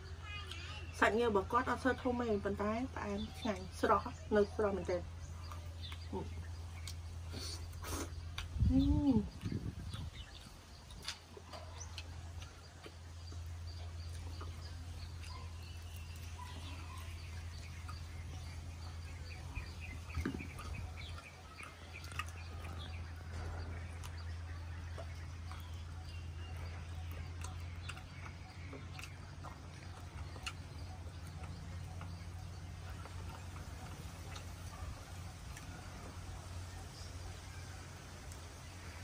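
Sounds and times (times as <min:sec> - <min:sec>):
steady low hum: 0:00.0 - 0:39.0
chewing sounds: 0:02.6 - 0:39.0.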